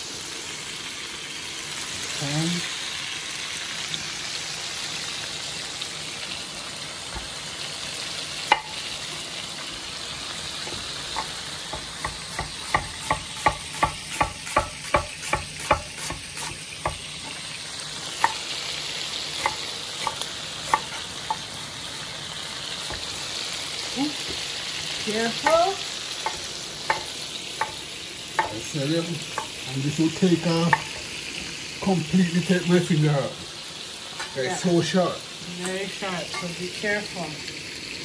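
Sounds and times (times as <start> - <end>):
chicken sizzling in oil: 0.0 - 38.0.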